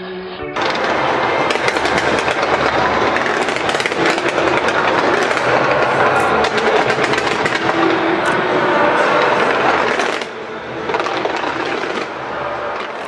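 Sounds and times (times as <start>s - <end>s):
fireworks crackling and popping: 0.6s - 13.0s.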